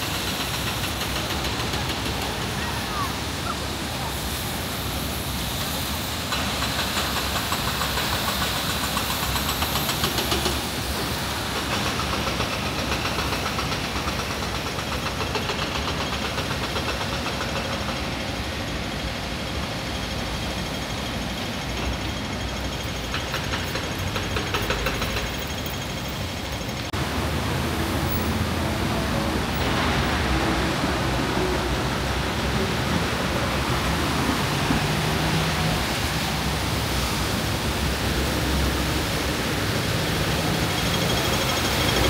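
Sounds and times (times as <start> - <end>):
engine running with rattle: 0.0 - 42.0.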